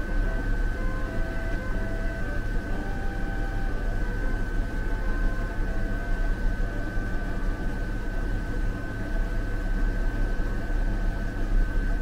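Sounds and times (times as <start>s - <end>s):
air conditioner whirring: 0.0s - 12.0s.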